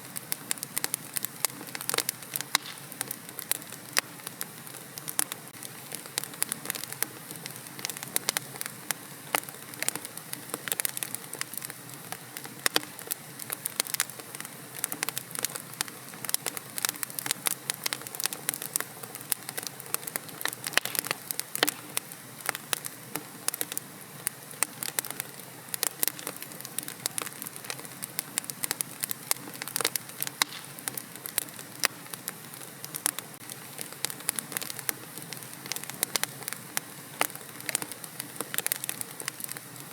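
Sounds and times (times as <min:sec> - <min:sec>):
wood fire crackling and popping: 0:00.1 - 0:39.9.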